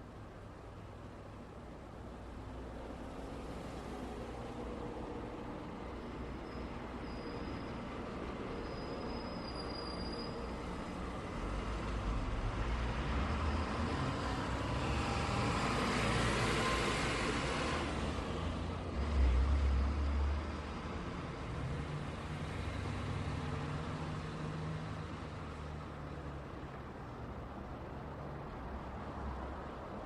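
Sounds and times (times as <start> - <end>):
road traffic hiss: 0.0 - 30.0.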